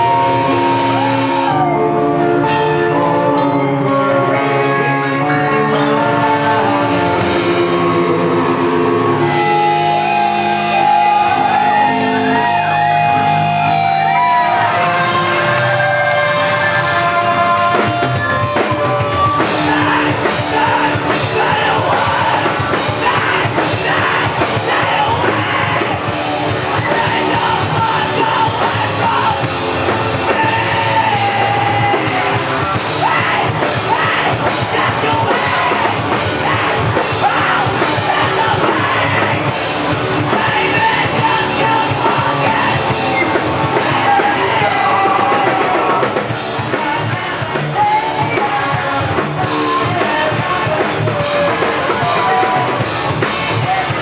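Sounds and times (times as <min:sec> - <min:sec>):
drums: 0:00.0 - 0:54.0
electric guitar: 0:00.0 - 0:54.0
live rock band playing: 0:00.0 - 0:54.0
person singing: 0:00.0 - 0:54.0.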